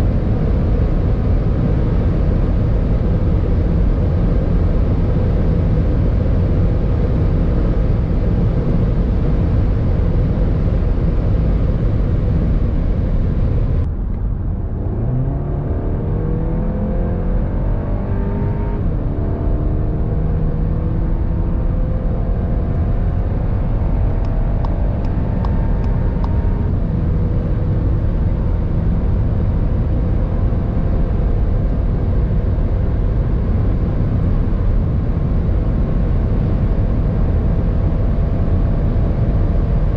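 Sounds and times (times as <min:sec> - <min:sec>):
car engine drone: 0:00.0 - 0:39.9
engine accelerating hard: 0:00.0 - 0:39.9
wind and road noise: 0:00.0 - 0:39.9.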